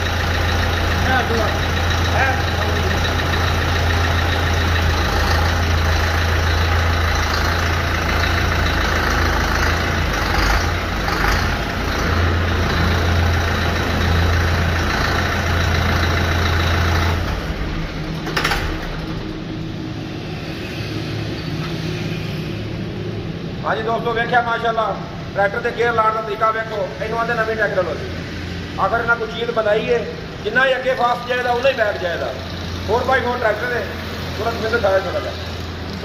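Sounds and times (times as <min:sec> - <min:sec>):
tractor diesel engine running: 0:00.0 - 0:20.6, 0:22.6 - 0:36.0.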